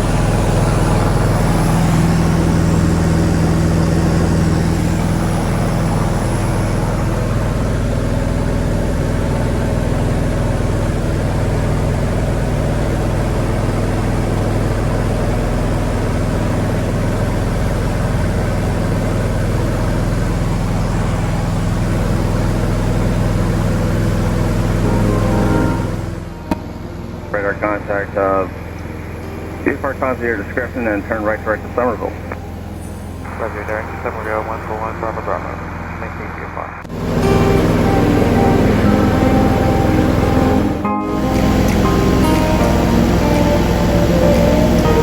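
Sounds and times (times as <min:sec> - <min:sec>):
piston engine and propeller drone: 0:00.0 - 0:45.0.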